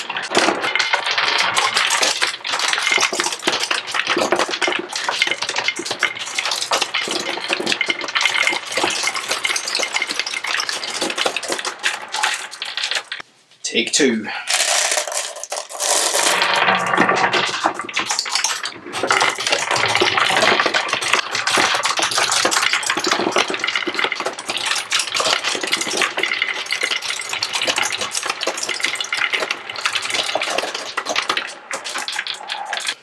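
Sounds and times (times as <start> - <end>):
glass marbles clattering down track: 0.0 - 13.2, 14.5 - 33.0.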